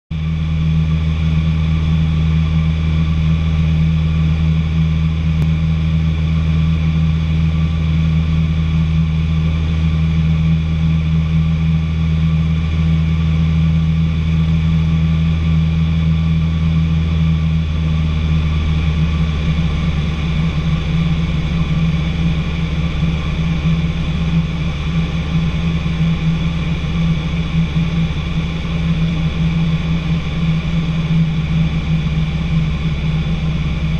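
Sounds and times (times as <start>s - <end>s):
aircraft engine and propeller drone: 0.1s - 33.9s.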